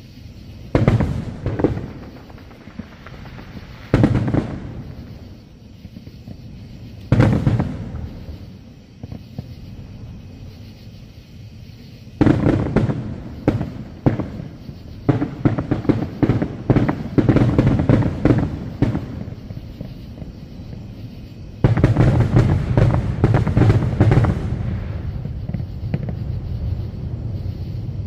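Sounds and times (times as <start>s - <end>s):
firework crackling: 0.0s - 28.0s
firework bang: 0.7s - 6.4s, 7.0s - 9.7s, 12.2s - 20.6s, 21.6s - 28.0s.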